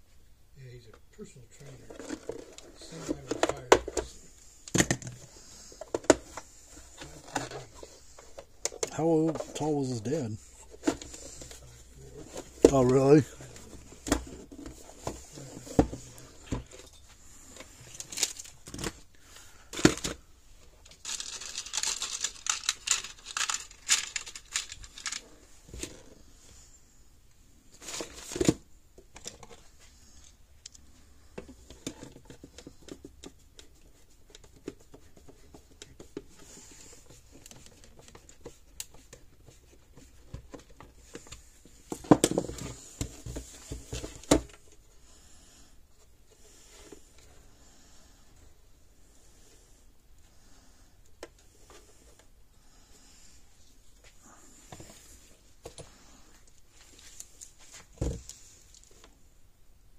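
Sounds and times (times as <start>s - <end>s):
rustling and crinkling: 0.9s - 59.3s.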